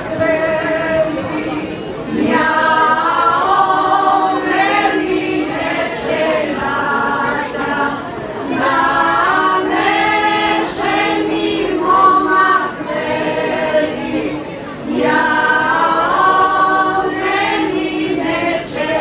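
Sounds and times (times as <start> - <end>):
women's choir singing: 0.0 - 19.0.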